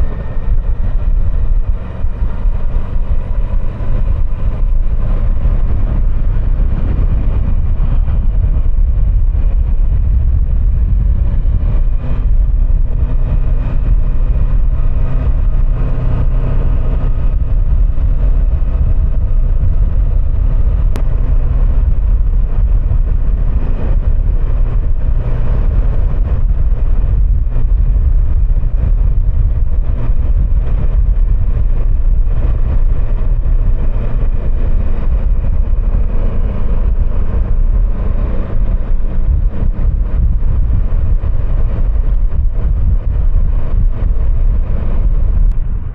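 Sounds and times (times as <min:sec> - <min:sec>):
motorcycle engine running: 0:00.0 - 0:45.9
wind rushing on microphone: 0:00.0 - 0:45.9.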